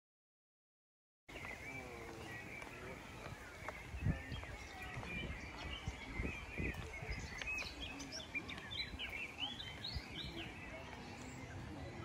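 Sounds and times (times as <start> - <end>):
small birds chirping and twittering: 1.3 - 12.0.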